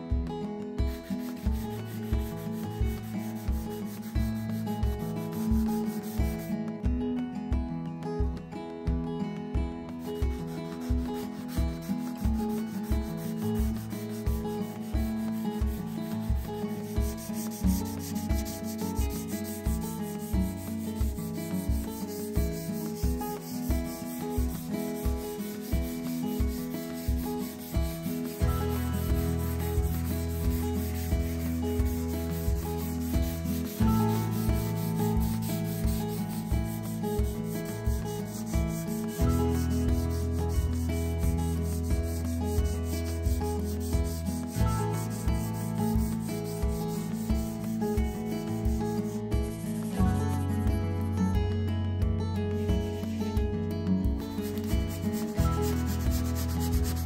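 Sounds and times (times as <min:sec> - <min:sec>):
soft background music: 0:00.0 - 0:57.0
sandpaper sanding wood: 0:01.0 - 0:06.5, 0:10.0 - 0:50.6, 0:54.4 - 0:57.0.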